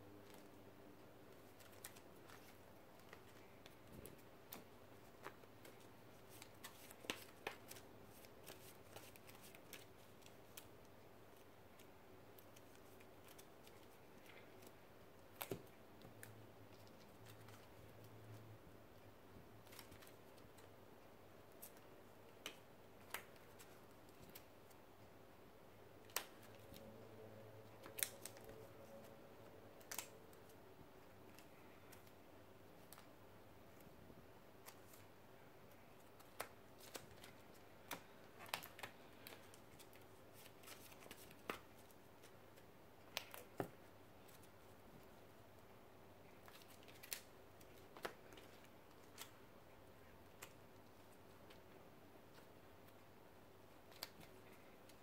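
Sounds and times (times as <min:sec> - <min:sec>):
quiet room noise: 0:00.0 - 0:55.0.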